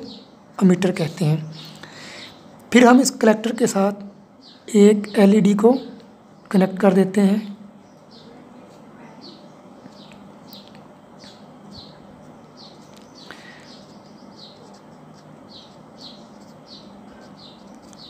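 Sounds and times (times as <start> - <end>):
bird chirping: 0.0 - 2.5, 4.4 - 8.4, 9.1 - 18.0
faint low hum: 0.0 - 18.0.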